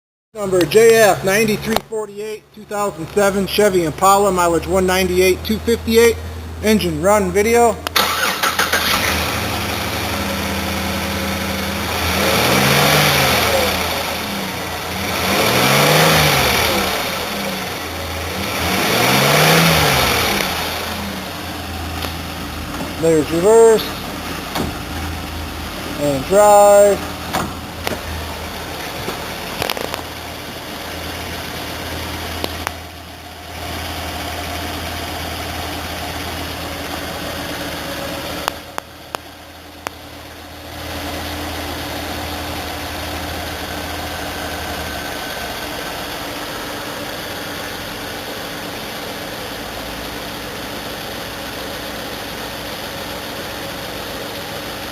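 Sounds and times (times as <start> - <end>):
car engine idling and revving: 0.4 - 54.9.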